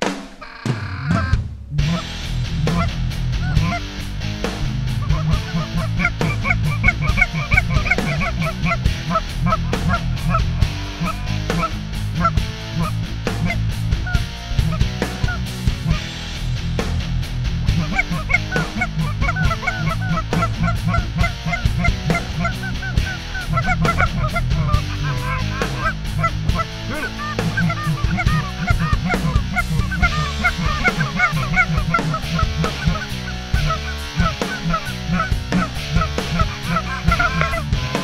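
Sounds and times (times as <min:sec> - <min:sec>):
geese honking: 0:00.0 - 0:16.4, 0:17.6 - 0:38.0.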